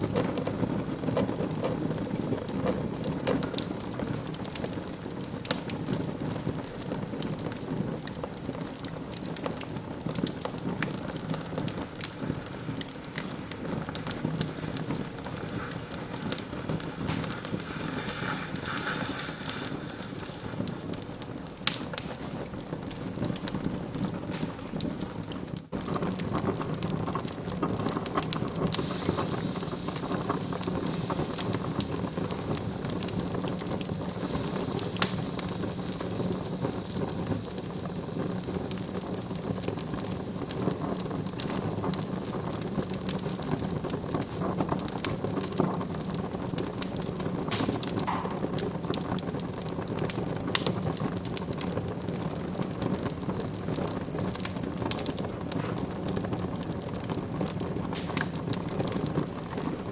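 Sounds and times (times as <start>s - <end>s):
fire hissing: 0.0s - 59.9s
wood fire crackling: 0.0s - 59.9s.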